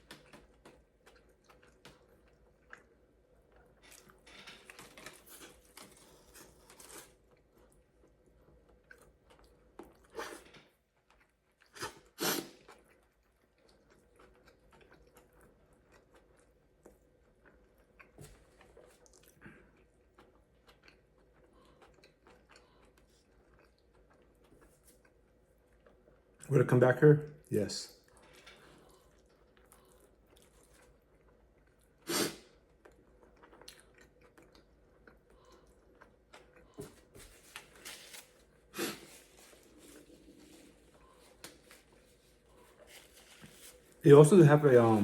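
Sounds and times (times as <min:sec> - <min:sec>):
person chewing food: 0:00.0 - 0:26.4, 0:28.0 - 0:44.0.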